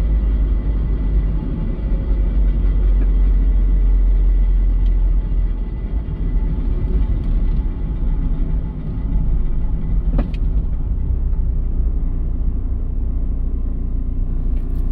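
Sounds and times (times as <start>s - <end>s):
car engine low rumble: 0.0s - 14.9s.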